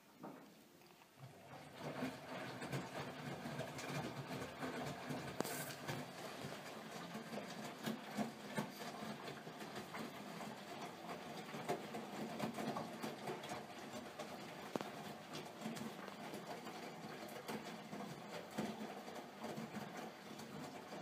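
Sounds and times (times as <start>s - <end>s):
wet laundry tumbling with soft knocks: 0.1s - 21.0s.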